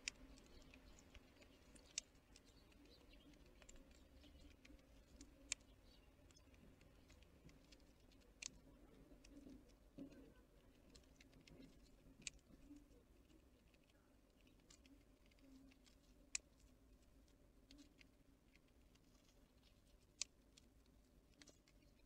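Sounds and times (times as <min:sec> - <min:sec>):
animals clicking at a seed feeder: 0:00.0 - 0:22.0.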